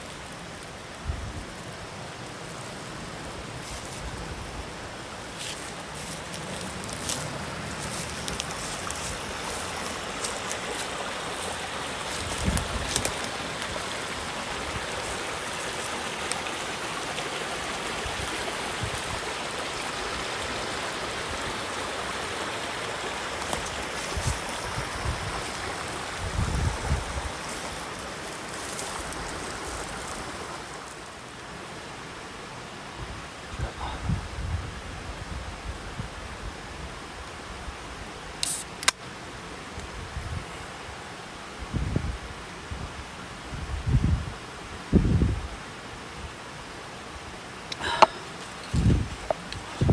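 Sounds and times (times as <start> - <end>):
stream water running: 0.0 - 49.9.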